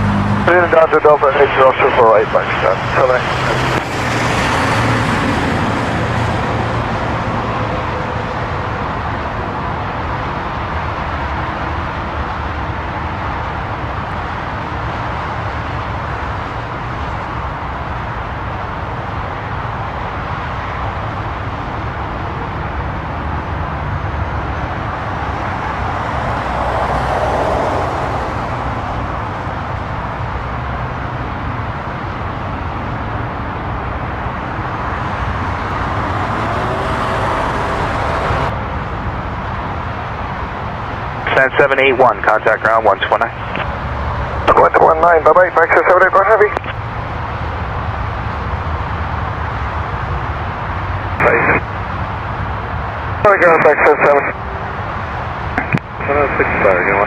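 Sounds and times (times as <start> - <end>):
jet plane taxiing rumble: 0.0 - 57.0.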